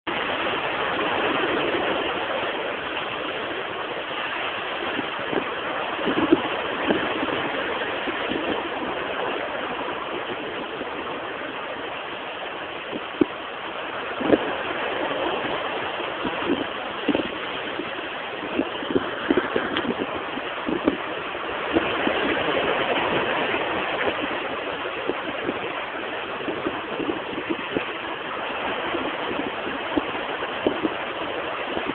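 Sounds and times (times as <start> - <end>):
sea washing against shore: 0.1 - 31.9.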